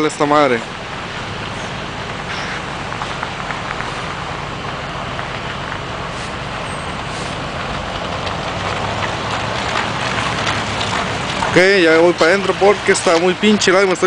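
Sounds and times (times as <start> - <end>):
vehicles idling and driving past: 0.0 - 14.0.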